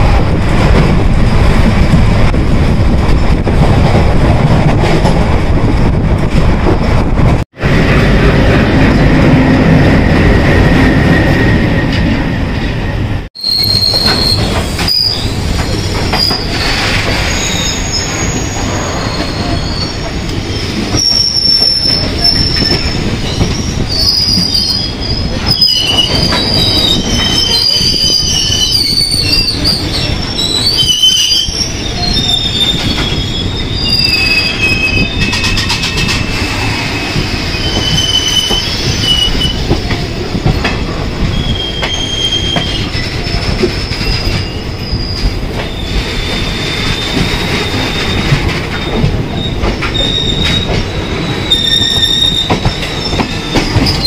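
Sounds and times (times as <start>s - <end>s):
train wheels rumbling on rails: 0.0s - 54.0s
wheels squealing against rails: 8.8s - 54.0s.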